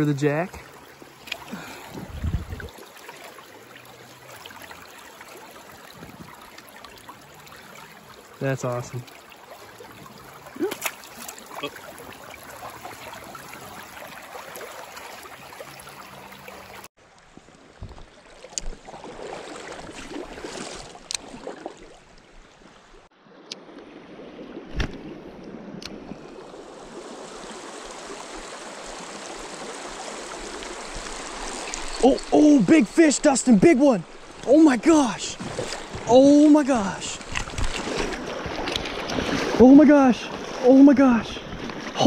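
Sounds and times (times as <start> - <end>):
creek water running over riffle: 0.0 - 42.0.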